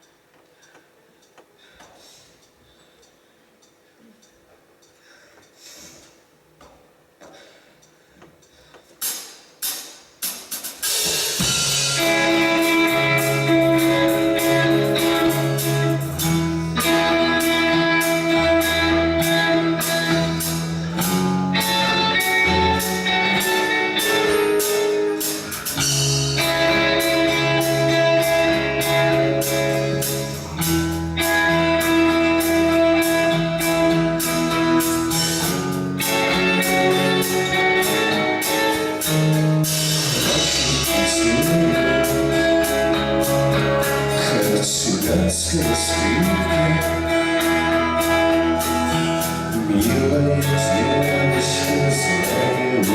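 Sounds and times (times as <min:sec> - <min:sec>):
rock band playing: 0:09.0 - 0:52.9.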